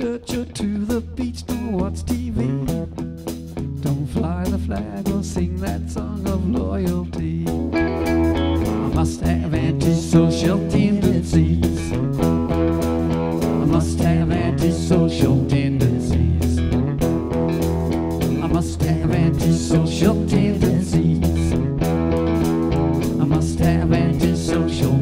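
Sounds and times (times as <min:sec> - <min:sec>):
person singing: 0:00.0 - 0:03.0, 0:03.6 - 0:12.3, 0:13.4 - 0:16.8, 0:18.3 - 0:21.6, 0:23.0 - 0:25.0
bass guitar: 0:00.0 - 0:25.0
drums: 0:00.0 - 0:25.0
electric guitars: 0:00.0 - 0:25.0.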